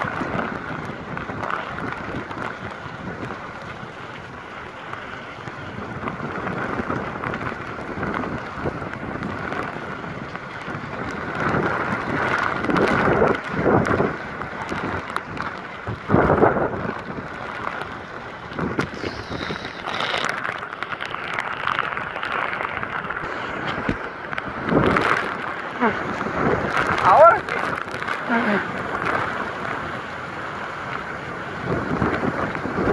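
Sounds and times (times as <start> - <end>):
wind-driven heavy rain: 0.0 - 32.9.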